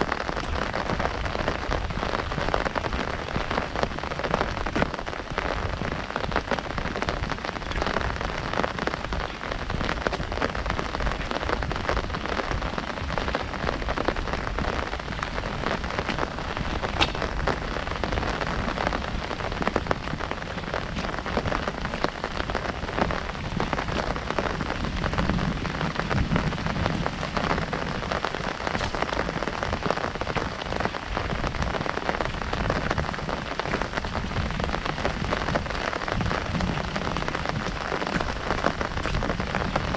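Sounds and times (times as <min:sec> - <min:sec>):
heavy rain on an umbrella: 0:00.0 - 0:39.9.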